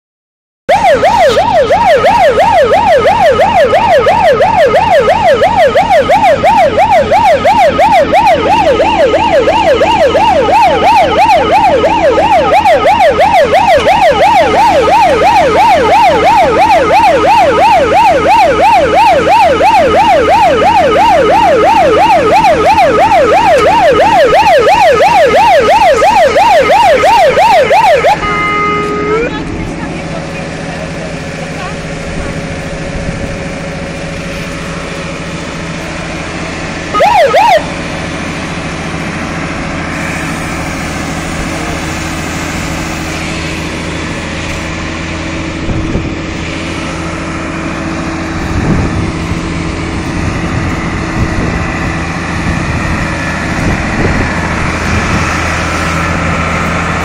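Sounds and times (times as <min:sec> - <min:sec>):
fire engine siren yelping: 0:00.7 - 0:57.0.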